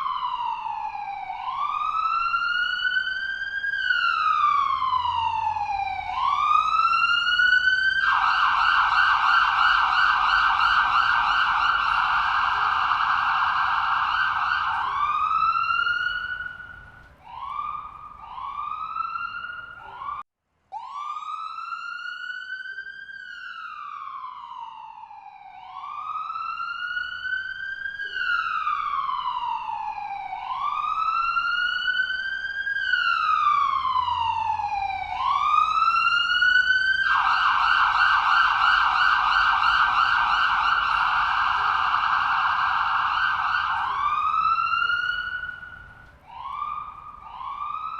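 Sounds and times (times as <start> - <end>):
electronic ambulance siren: 0.0 - 47.9.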